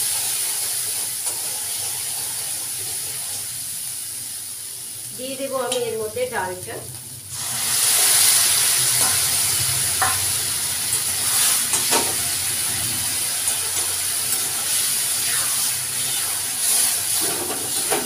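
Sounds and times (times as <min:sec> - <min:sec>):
dal sizzling in hot oil: 0:00.0 - 0:18.0.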